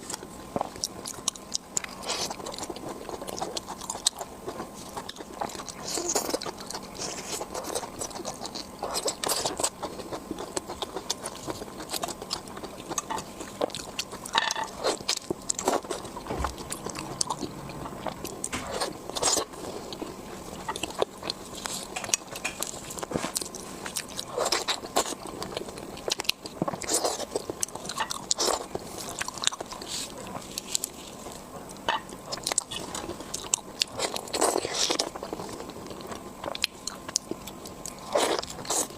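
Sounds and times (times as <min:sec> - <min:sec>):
biting and crunching: 0:00.0 - 0:38.9
wet chewing: 0:00.0 - 0:38.9.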